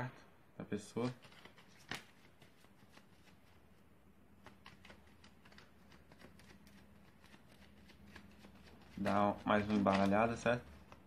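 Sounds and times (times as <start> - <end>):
playing cards being shuffled: 0.9 - 3.6, 4.3 - 11.0.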